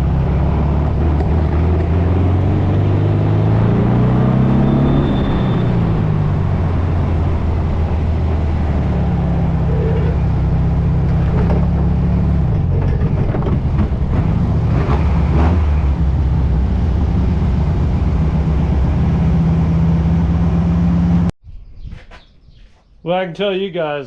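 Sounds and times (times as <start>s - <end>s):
buggy engine accelerating through gears: 0.0s - 21.3s.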